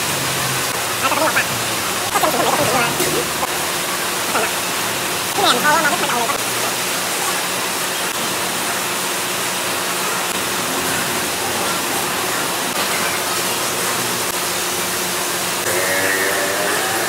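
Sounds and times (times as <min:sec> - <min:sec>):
heavy rain on metal roof: 0:00.0 - 0:17.0.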